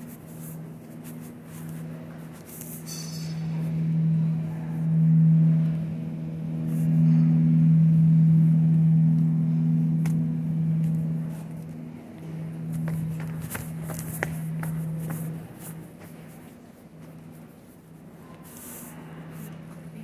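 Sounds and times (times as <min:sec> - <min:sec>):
refrigerated display case hum: 0:00.0 - 0:20.0.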